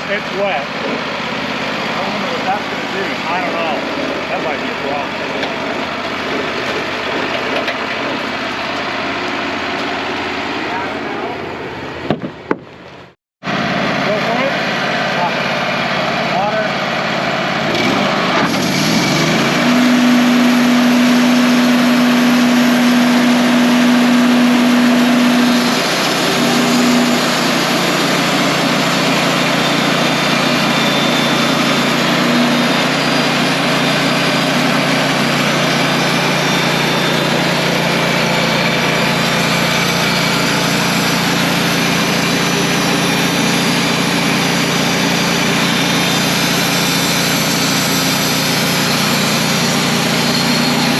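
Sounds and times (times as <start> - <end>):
band sawmill cutting log: 0.0 - 50.9.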